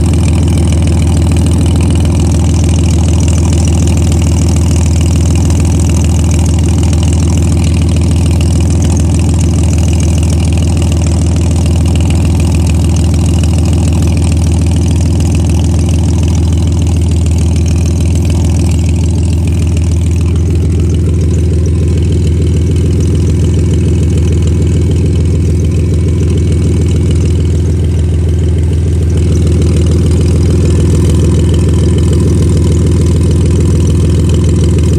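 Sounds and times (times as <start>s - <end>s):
engine idling with exhaust pulsing: 0.0s - 34.9s.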